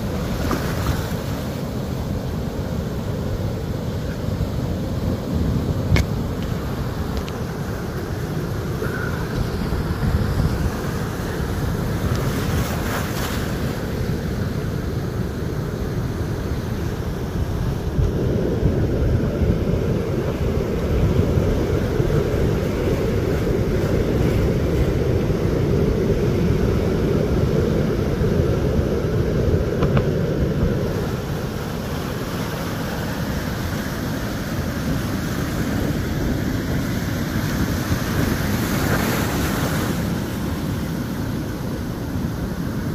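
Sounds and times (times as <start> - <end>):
ocean surf breaking: 0.0 - 42.9
wind buffeting microphone: 0.0 - 42.9.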